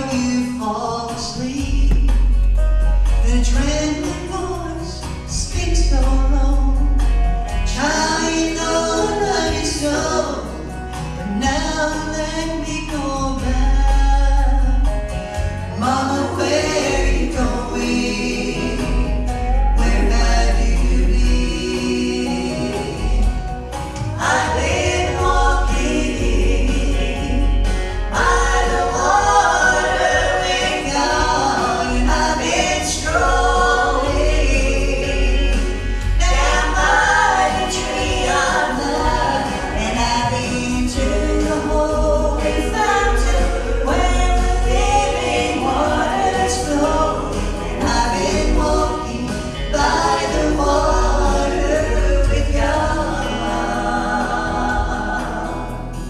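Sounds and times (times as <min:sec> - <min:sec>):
backing music with deep bass: 0:00.0 - 0:56.0
vocal group singing in harmony: 0:00.0 - 0:56.0.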